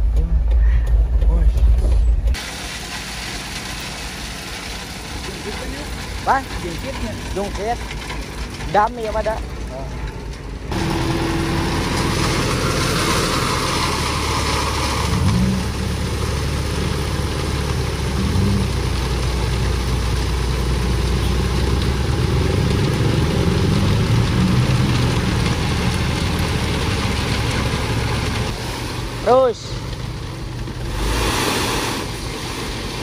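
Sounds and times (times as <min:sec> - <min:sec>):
diesel truck engine revving: 0:00.0 - 0:33.0.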